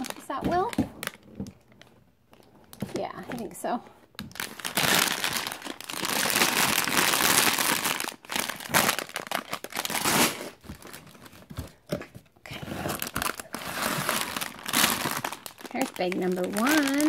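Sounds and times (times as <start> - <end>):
plastic bags of bricks crinkling: 0.0 - 17.0.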